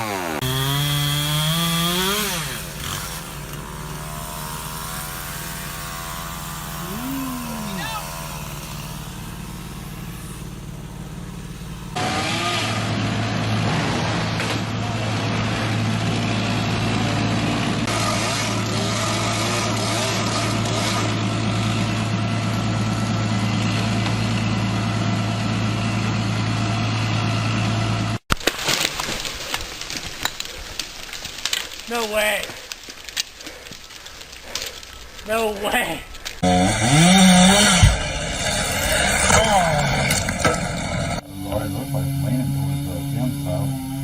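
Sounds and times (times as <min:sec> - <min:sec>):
engine running: 0:00.0 - 0:28.2, 0:36.2 - 0:44.0.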